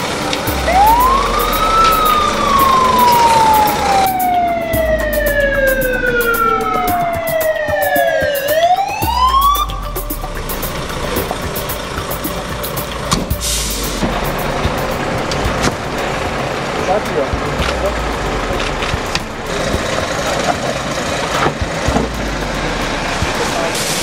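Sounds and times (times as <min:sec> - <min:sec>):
low rumble of truck: 0:00.0 - 0:07.9, 0:09.1 - 0:24.0
fire engine siren wailing: 0:00.0 - 0:24.0.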